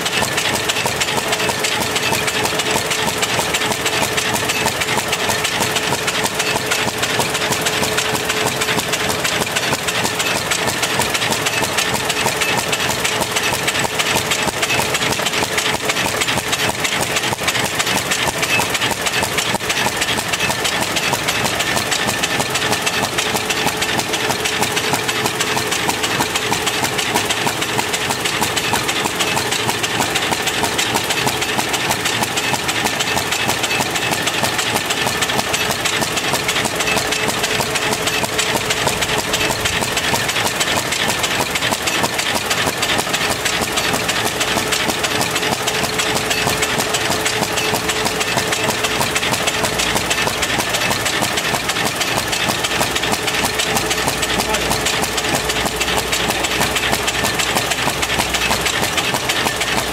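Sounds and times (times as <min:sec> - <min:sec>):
machine clatter of fast ticking: 0:00.0 - 0:59.9.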